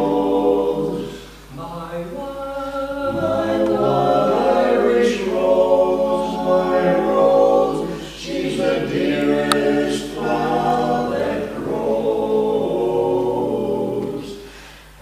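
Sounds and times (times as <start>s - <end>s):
men singing a cappella: 0.0s - 14.6s.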